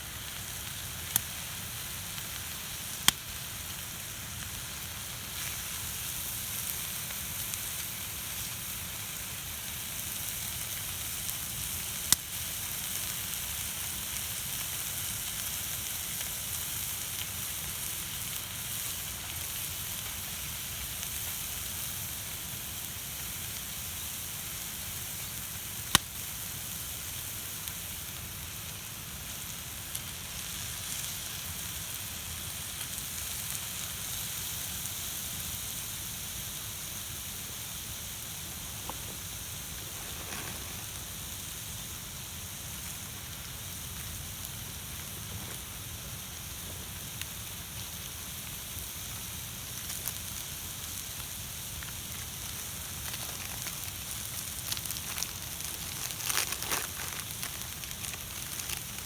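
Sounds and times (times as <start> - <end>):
food sizzling on a griddle: 0.0 - 59.0.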